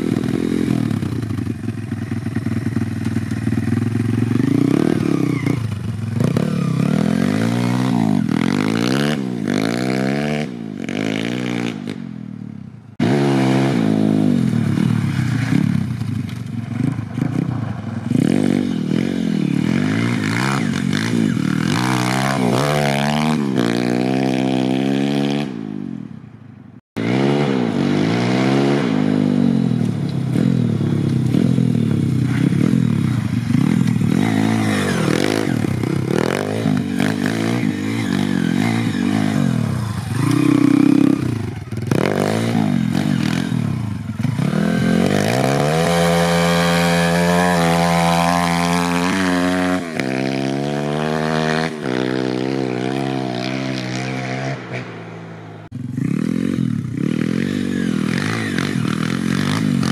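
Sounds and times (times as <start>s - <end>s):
motorbike engine revving: 0.0s - 26.1s, 27.0s - 59.9s.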